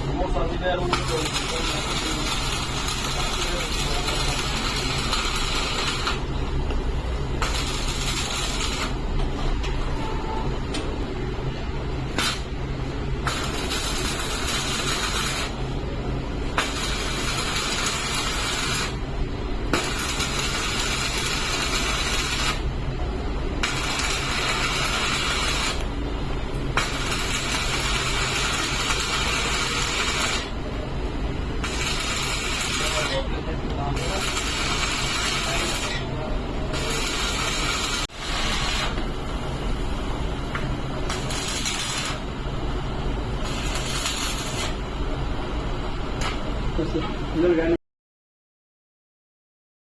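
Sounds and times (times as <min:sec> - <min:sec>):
welding arc crackling and hissing: 0:00.0 - 0:09.2, 0:12.0 - 0:46.9
low machinery hum: 0:00.0 - 0:47.8.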